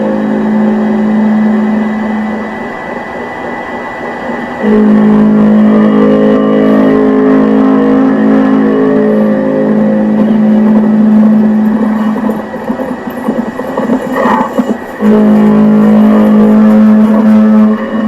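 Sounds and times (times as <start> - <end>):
sustained droning chord: 0.0 - 18.0.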